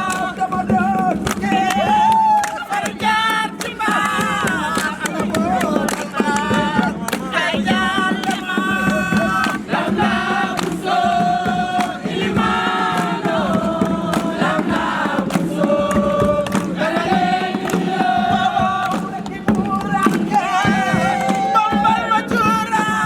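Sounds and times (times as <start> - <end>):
group of voices singing: 0.0 - 23.0
percussive hits: 0.0 - 23.0.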